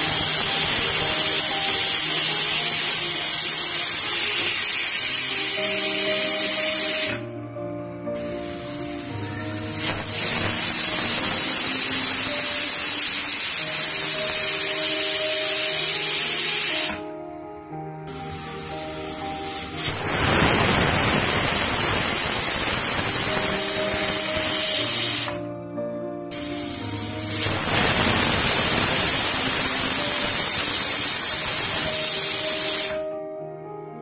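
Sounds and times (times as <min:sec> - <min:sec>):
pressure cooker steam hissing: 0:00.0 - 0:07.3, 0:08.2 - 0:17.1, 0:18.1 - 0:25.5, 0:26.3 - 0:33.2.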